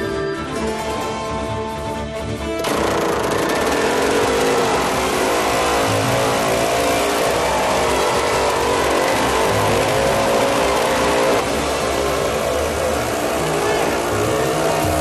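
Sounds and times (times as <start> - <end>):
motorcycle engine running hard: 2.6 - 15.0.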